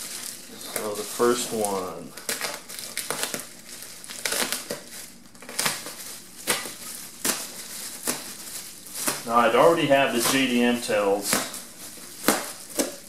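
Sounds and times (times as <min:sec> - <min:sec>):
bubble wrap and plastic crinkling: 0:00.0 - 0:13.0.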